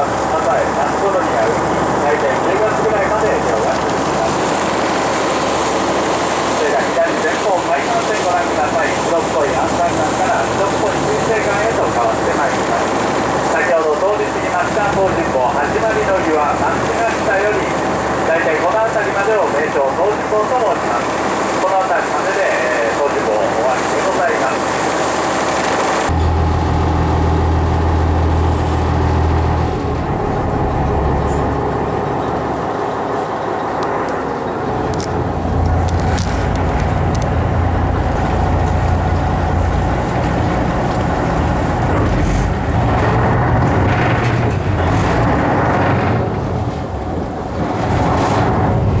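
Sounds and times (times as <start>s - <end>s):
boat engine humming: 0.0s - 49.0s
water and hull noise: 0.0s - 49.0s.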